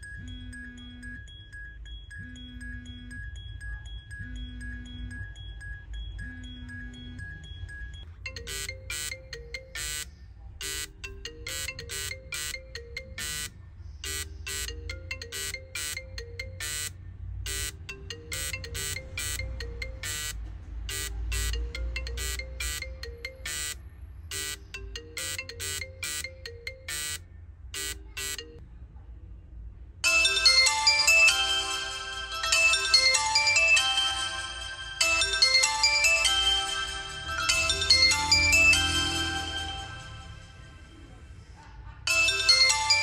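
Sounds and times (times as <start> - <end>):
phone ringtone melody: 0.0 - 28.6, 30.0 - 41.1, 42.1 - 43.0
louder phone ringtone: 4.2 - 27.2, 27.8 - 28.6, 30.0 - 40.8, 42.1 - 43.0.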